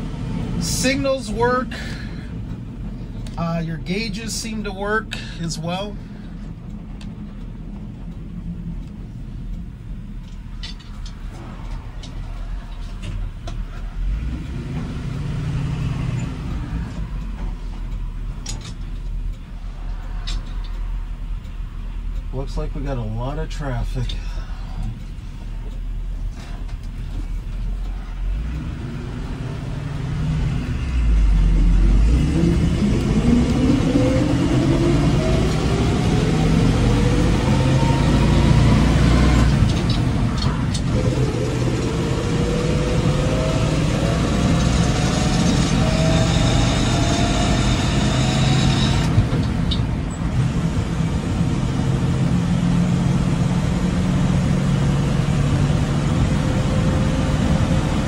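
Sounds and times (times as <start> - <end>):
truck engine accelerating: 0.0 - 58.0.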